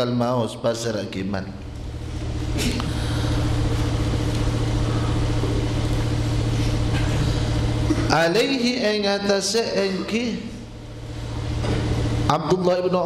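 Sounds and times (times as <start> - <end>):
engine running: 1.6 - 12.4.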